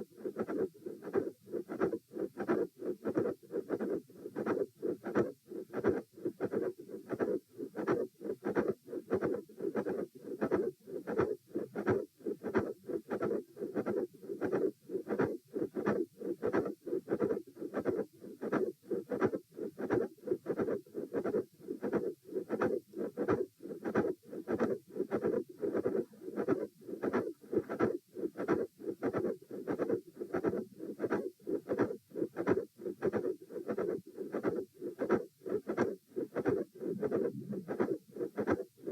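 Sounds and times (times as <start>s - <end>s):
heartbeat through stethoscope: 0.0s - 38.9s.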